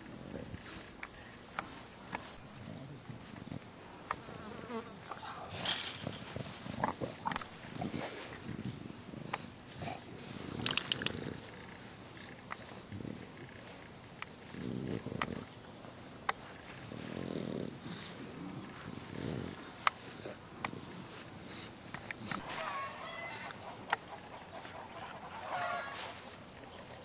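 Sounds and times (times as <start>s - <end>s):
puppies grunting and breathing: 0.0s - 27.0s.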